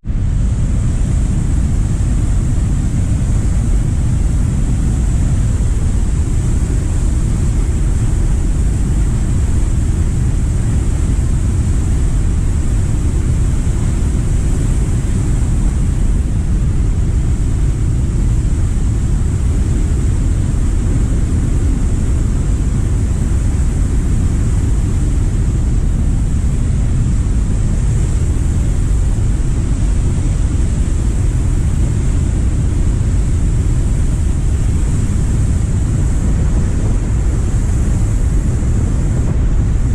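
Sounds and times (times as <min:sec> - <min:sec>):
waterfall roaring: 0:00.1 - 0:39.9.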